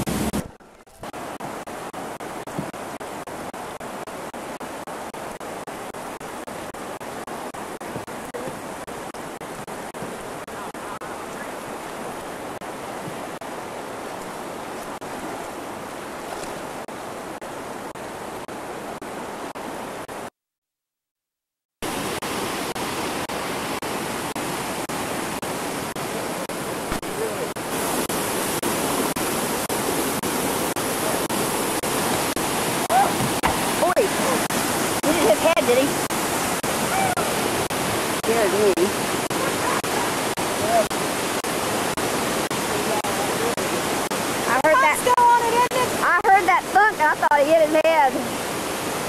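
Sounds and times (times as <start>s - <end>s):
water rushing through rapids: 0.0s - 20.3s, 21.8s - 49.0s.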